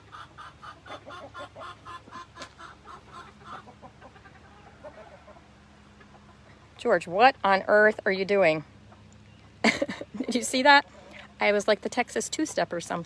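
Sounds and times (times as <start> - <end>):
chickens clucking: 0.0 - 11.7.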